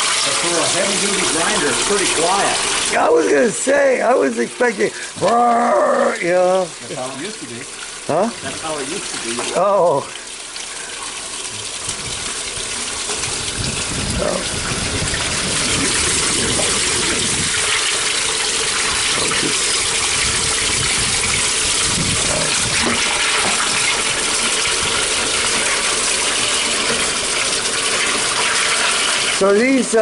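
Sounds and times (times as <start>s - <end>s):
water gushing through grinder: 0.0s - 30.0s.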